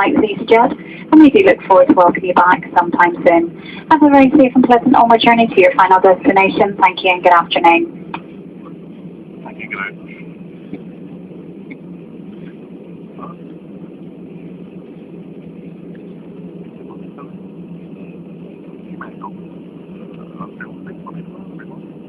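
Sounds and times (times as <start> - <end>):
airliner cabin drone: 0.0 - 22.0
passengers' voices: 0.0 - 22.0.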